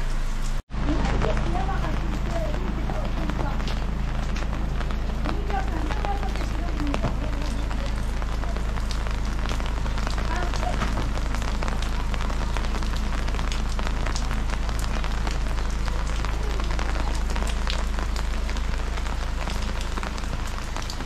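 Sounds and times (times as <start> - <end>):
heavy rain falling: 0.0 - 21.0
low rumble: 0.0 - 21.0.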